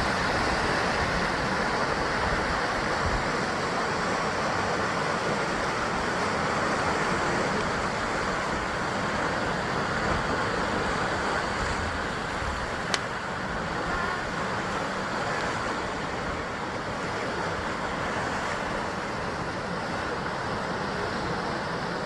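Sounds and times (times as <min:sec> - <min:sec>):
surf washing against rocky shore: 0:00.0 - 0:22.0.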